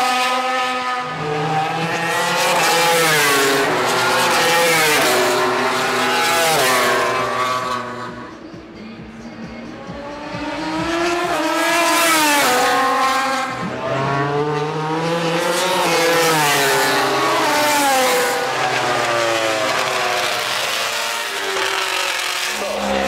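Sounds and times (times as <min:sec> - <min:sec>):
racing motorcycles passing: 0:00.0 - 0:08.9, 0:09.5 - 0:23.0.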